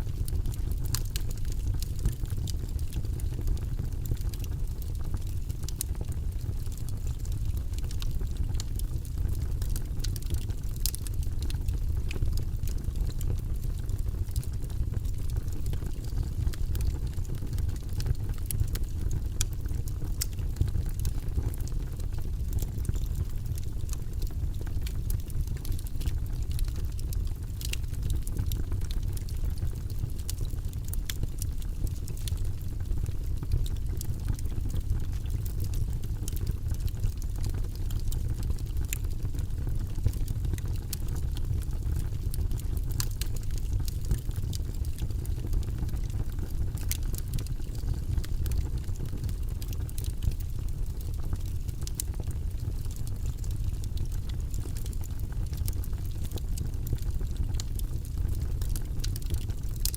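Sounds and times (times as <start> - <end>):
low rumble of flames: 0.0 - 59.9
logs crackling and popping: 0.1 - 59.9.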